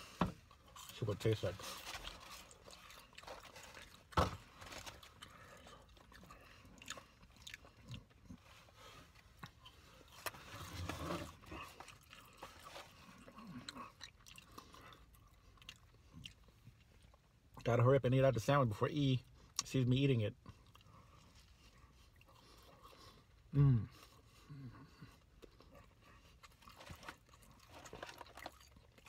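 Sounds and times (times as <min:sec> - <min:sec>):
person chewing food: 0:01.6 - 0:17.6, 0:20.4 - 0:29.0.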